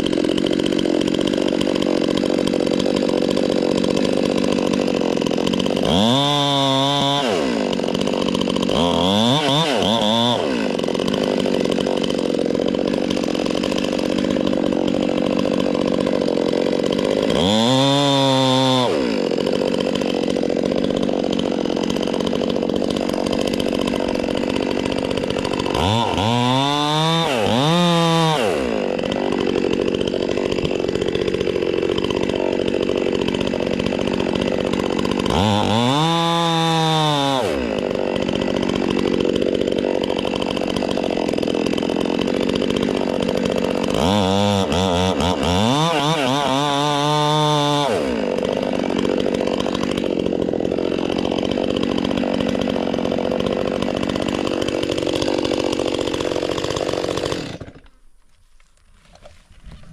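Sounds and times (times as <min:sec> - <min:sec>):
electric chainsaw cutting wood: 0:00.0 - 0:59.9.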